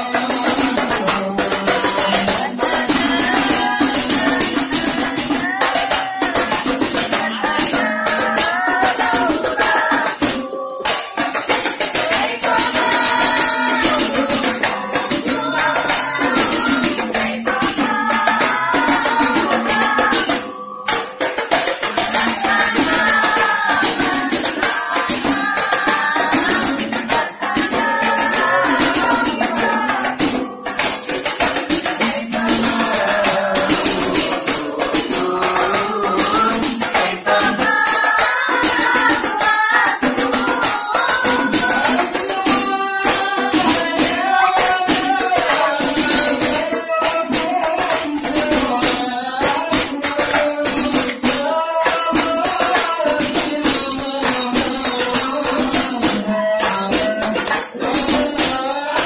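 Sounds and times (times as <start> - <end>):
tambourine jingling: 0.0 - 59.0
voices singing devotional song: 0.0 - 59.0.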